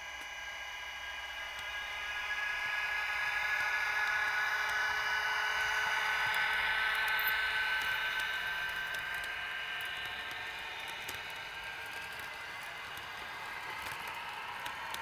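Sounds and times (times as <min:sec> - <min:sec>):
model train wheels on rails: 0:00.0 - 0:15.0
small motor whine: 0:00.0 - 0:15.0.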